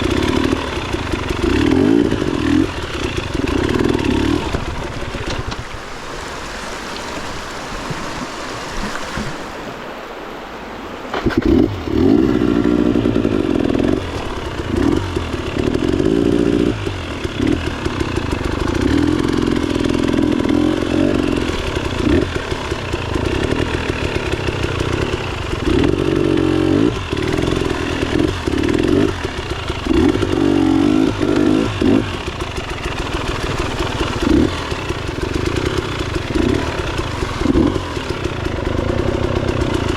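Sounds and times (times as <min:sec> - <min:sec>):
motorcycle engine revving: 0:00.0 - 0:05.8, 0:11.1 - 0:39.9.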